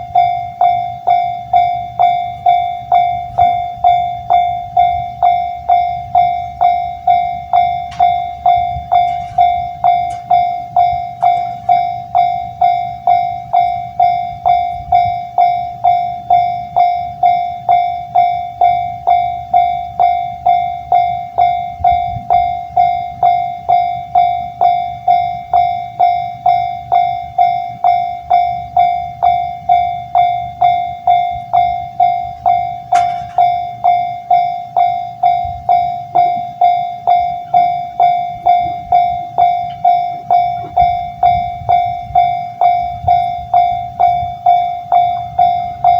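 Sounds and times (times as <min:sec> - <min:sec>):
level crossing bell ringing: 0:00.0 - 0:45.9.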